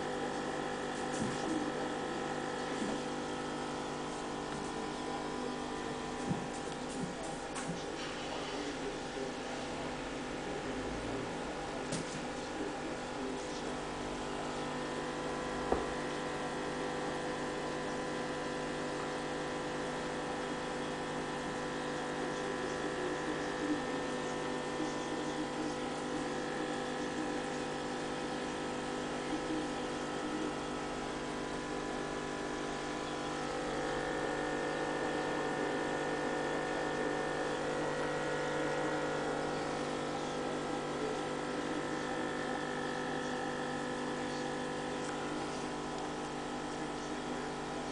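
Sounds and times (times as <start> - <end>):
aquarium pump humming: 0.0 - 47.9
water bubbling in a tank: 0.0 - 47.9.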